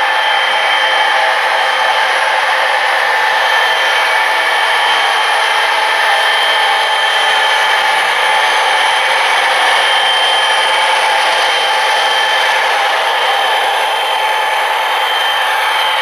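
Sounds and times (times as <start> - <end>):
model train whirring: 0.0 - 16.0.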